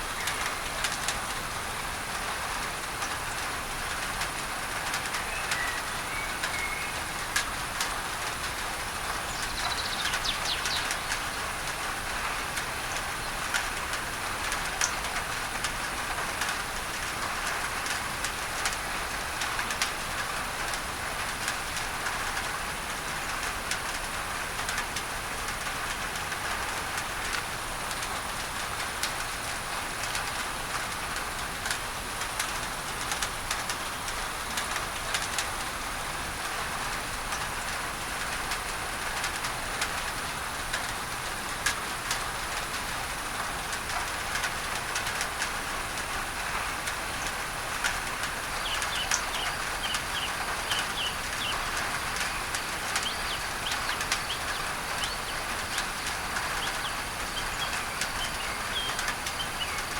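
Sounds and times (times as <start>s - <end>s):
rain on a tin roof: 0.0s - 59.9s
steady hiss of noise: 0.0s - 59.9s.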